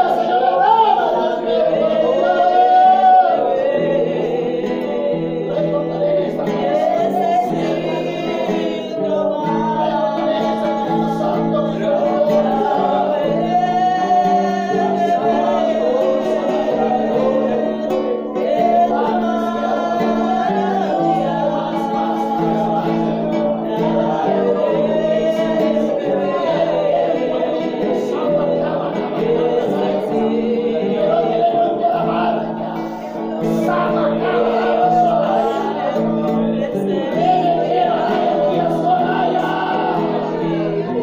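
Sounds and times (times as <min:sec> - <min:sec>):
voices singing: 0:00.0 - 0:41.0.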